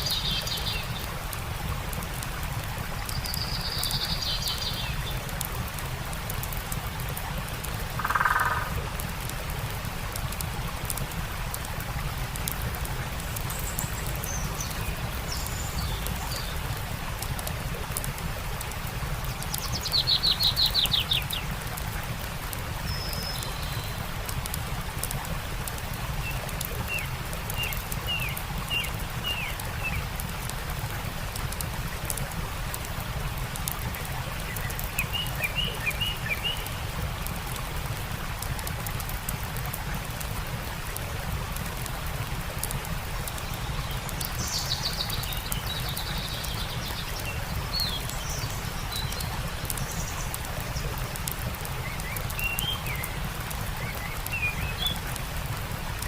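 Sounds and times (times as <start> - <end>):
campfire crackling: 0.0 - 56.0
stream rushing: 0.0 - 56.0.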